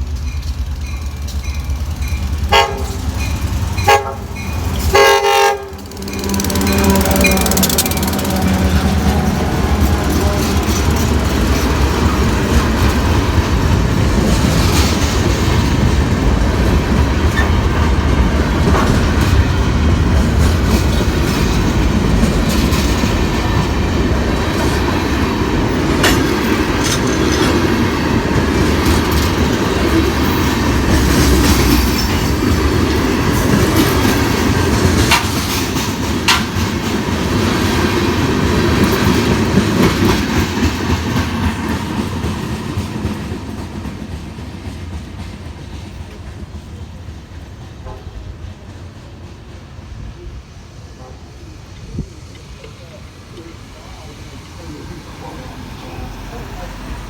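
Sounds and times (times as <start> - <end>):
wheels clacking over rail joints: 0.0 - 49.9
freight train rumbling past: 0.0 - 57.0.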